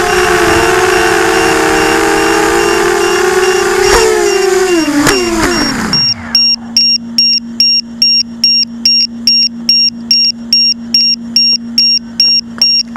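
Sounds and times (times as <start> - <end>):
drone motors spinning down: 0.0 - 12.4
high-pitched buzzer beeping: 0.0 - 12.9
low hum: 0.0 - 12.9.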